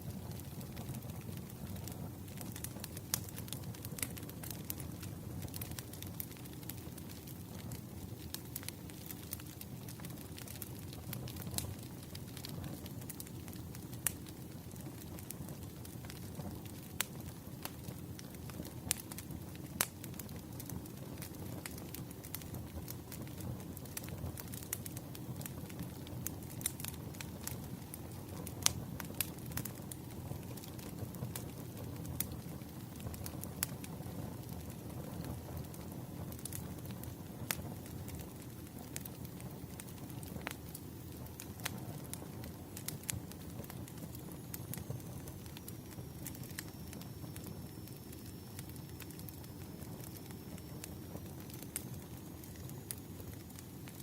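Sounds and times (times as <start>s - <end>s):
fire popping and snapping: 0.0s - 54.0s
wood fire crackling: 0.0s - 54.0s.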